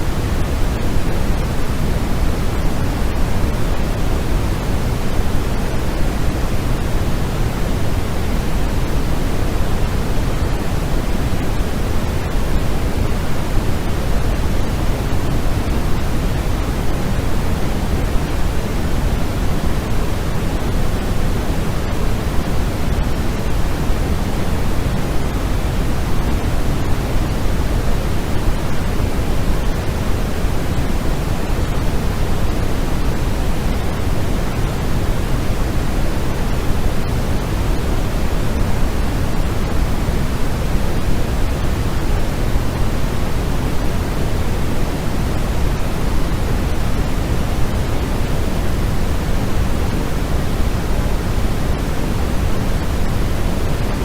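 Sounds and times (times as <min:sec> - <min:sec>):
steady pink noise: 0:00.0 - 0:54.0.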